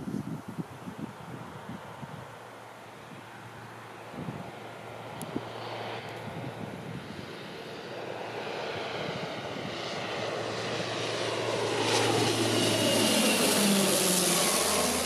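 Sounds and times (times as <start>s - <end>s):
airliner engines roaring: 0.5s - 15.0s.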